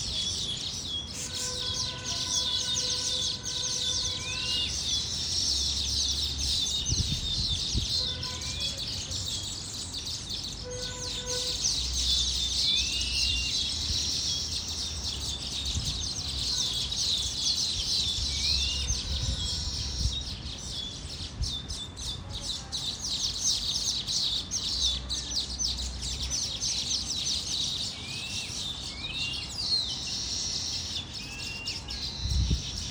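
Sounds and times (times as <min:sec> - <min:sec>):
flock of small birds chirping: 0:00.0 - 0:32.9.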